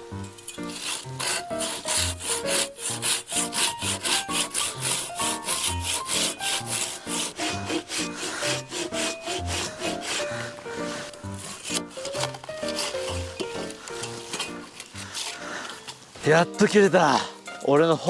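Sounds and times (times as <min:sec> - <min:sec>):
handsaw cutting log: 0:00.5 - 0:15.8.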